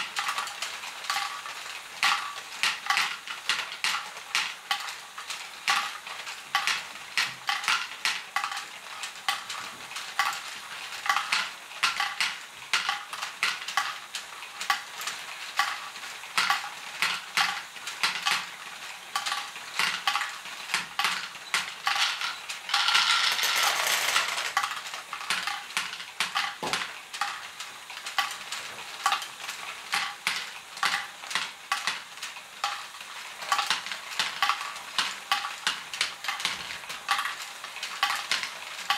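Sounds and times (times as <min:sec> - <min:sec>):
plastic balls clicking and clattering: 0:00.0 - 0:38.9.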